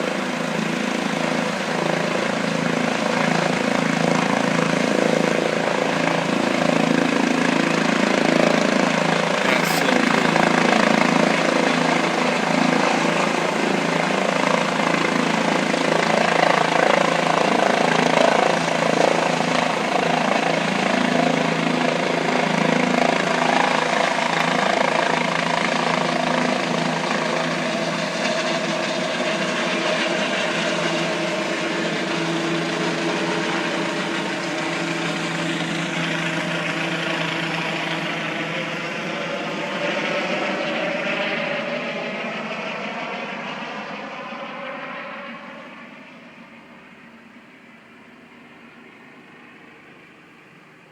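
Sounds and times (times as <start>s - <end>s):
helicopter turbine and rotor drone: 0.0s - 50.9s.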